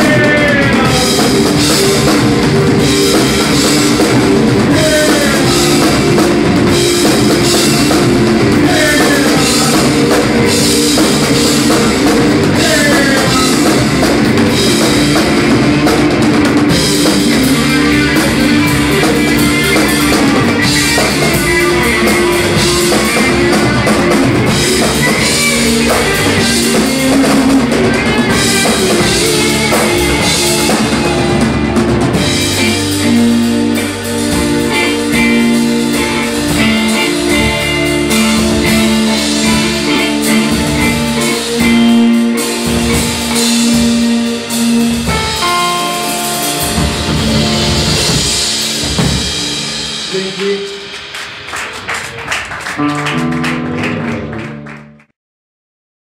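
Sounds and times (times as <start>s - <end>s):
drum kit beat: 0.0s - 55.0s
rock band playing live: 0.0s - 55.1s.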